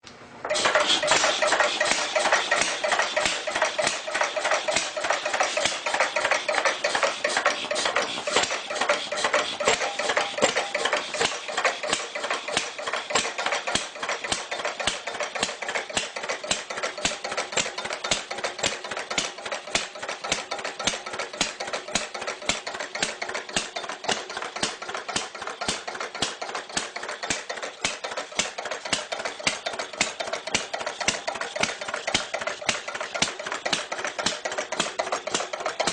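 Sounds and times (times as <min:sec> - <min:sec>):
old engine idling with knocks: 0:00.4 - 0:35.9.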